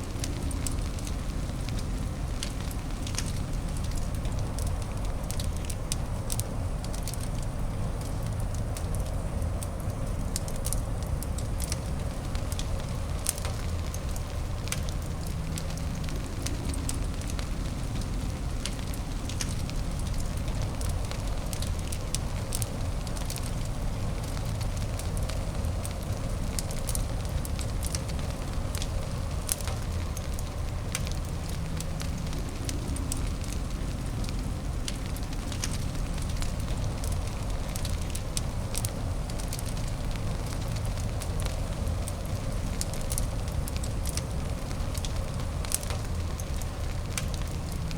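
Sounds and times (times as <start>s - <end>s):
fire crackling and popping: 0.0s - 47.9s
fire rumble and hiss: 0.0s - 47.9s.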